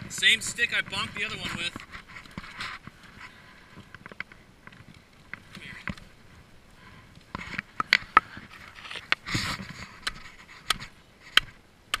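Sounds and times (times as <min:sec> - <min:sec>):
footsteps on wet gravel path: 0:00.0 - 0:10.4
scraping rustle: 0:00.0 - 0:11.6.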